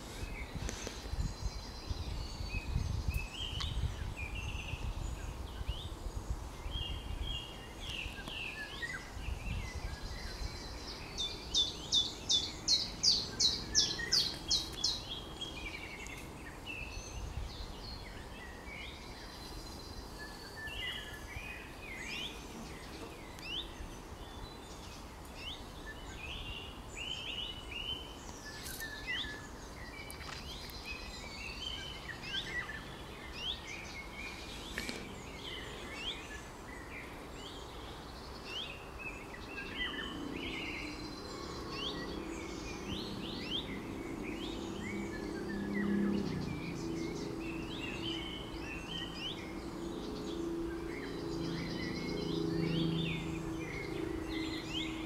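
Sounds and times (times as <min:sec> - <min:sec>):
songbirds whistling: 0:06.6 - 0:55.0.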